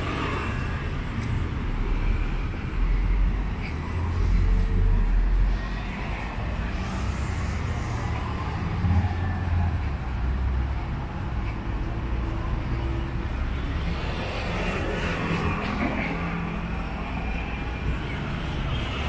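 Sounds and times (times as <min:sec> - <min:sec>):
road traffic humming: 0:00.0 - 0:19.0.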